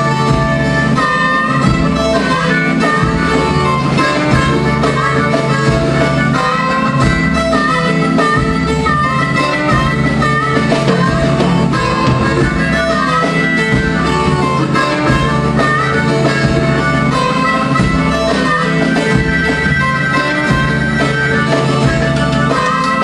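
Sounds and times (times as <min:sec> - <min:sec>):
acoustic guitar accompaniment: 0:00.0 - 0:23.0
blues harmonica solo: 0:00.0 - 0:23.0.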